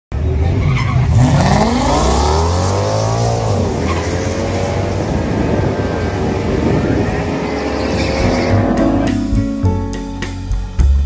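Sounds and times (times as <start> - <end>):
car engine at full throttle: 0.2 - 9.4.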